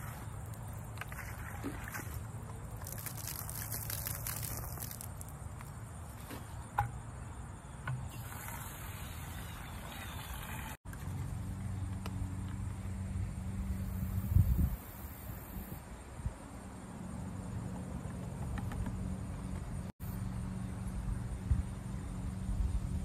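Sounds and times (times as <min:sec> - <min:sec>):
faint outdoor ambience: 0:00.0 - 0:23.0
low mechanical hum: 0:00.0 - 0:23.0.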